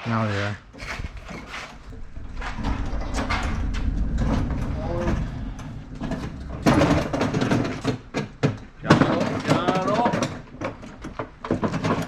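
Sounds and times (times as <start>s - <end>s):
hoist caster wheels rumbling: 0.8s - 12.0s.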